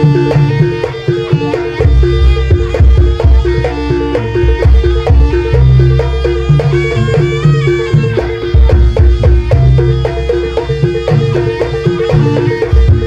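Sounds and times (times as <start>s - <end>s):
drums: 0.0s - 13.0s
metallophones: 0.0s - 13.0s
sustained melody line: 0.0s - 13.0s.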